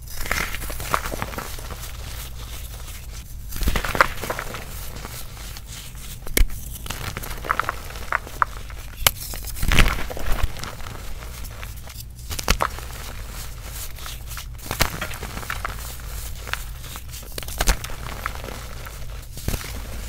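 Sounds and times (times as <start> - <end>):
hands crunching chalk powder: 0.0 - 20.0
chalk chunks cracking: 0.1 - 20.0.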